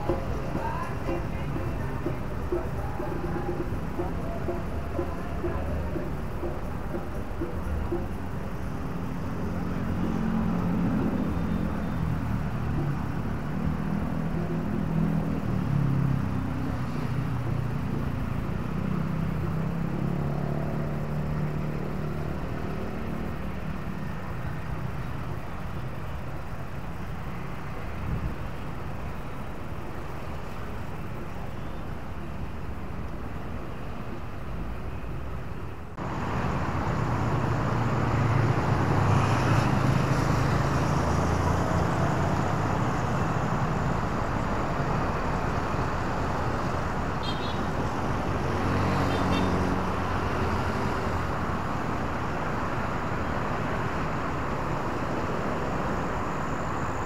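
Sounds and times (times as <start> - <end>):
steady traffic noise: 0.0 - 57.0
vehicle engine running low: 0.0 - 57.0.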